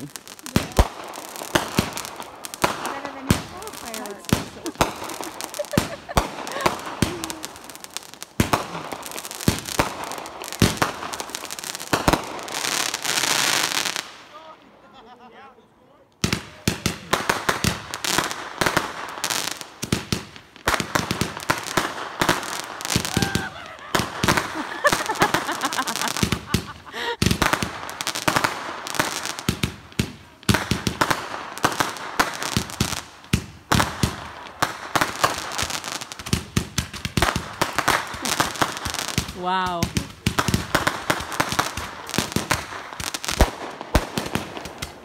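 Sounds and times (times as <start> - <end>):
fireworks barrage popping and crackling: 0.0 - 14.4, 16.1 - 45.0.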